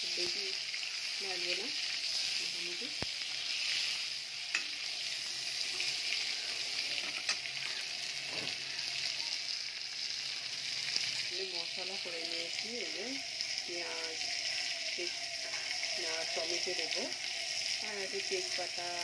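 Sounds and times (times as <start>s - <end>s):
eggs sizzling in oil: 0.0s - 19.0s.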